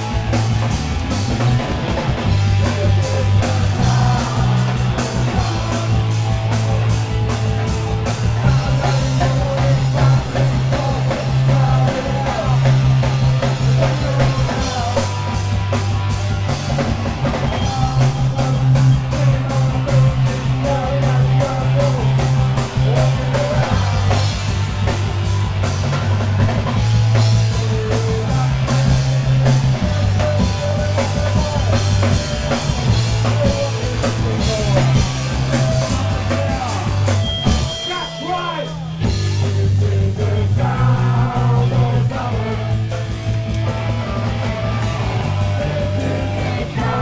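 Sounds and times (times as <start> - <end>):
bass line: 0.0 - 47.0
drum kit: 0.0 - 47.0
guitar: 0.0 - 47.0.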